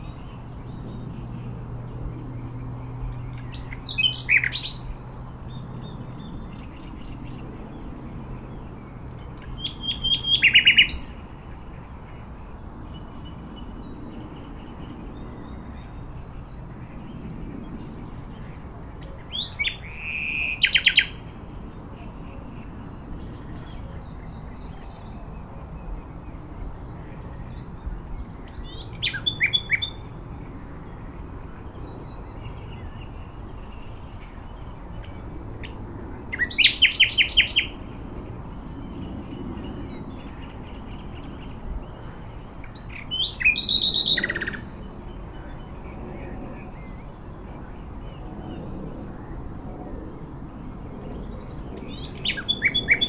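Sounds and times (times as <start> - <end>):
songbird singing: 0.0 - 49.4, 50.5 - 53.0
steady low background noise: 0.0 - 53.0.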